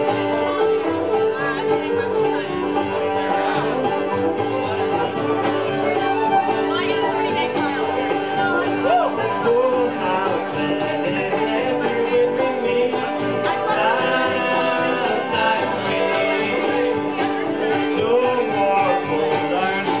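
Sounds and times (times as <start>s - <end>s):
acoustic guitar: 0.0s - 20.0s
banjo: 0.0s - 20.0s
fiddle: 0.0s - 20.0s
upright bass: 0.0s - 20.0s.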